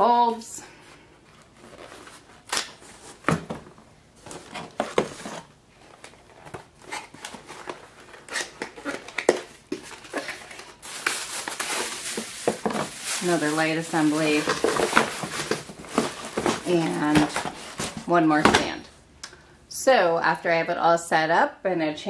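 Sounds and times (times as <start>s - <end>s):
cardboard rustling and crinkling: 0.1s - 18.8s.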